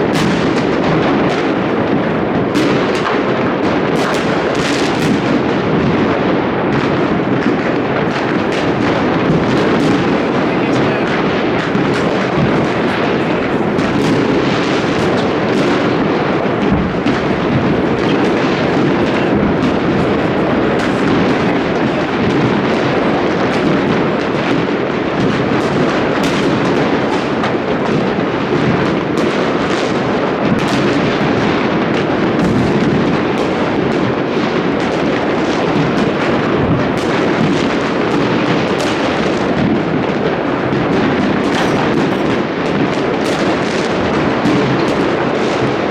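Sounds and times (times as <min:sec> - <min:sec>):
fireworks exploding: 0:00.0 - 0:45.9.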